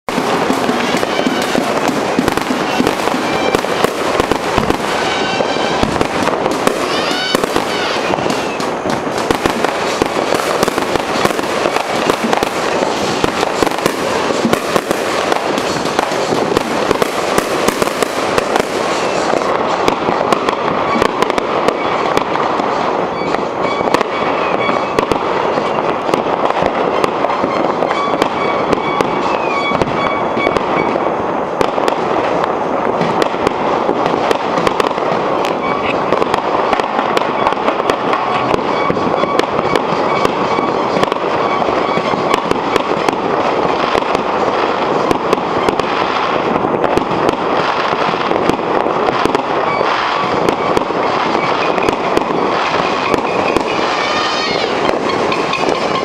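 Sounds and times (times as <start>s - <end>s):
fireworks pops and crackles: 0.0s - 56.0s
high gliding firework whistles: 0.1s - 56.0s.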